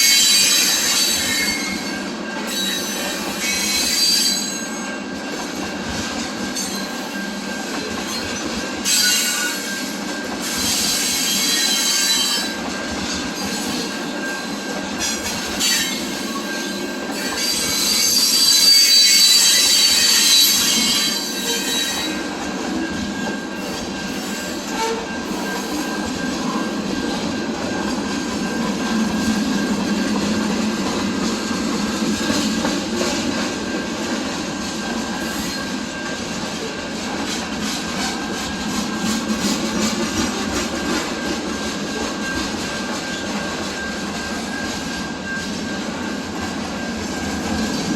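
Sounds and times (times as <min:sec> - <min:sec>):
train rolling rumble: 0:00.0 - 0:47.9
train wheels squealing on rails: 0:00.0 - 0:47.9.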